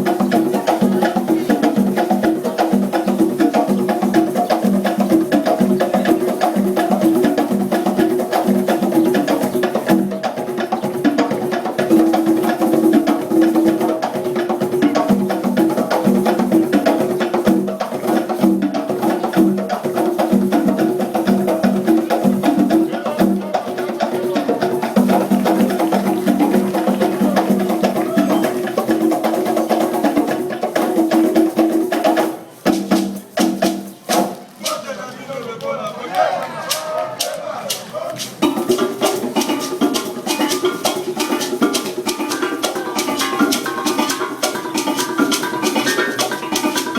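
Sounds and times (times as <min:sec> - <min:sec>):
group playing hand drums: 0:00.0 - 0:35.0, 0:36.6 - 0:46.9.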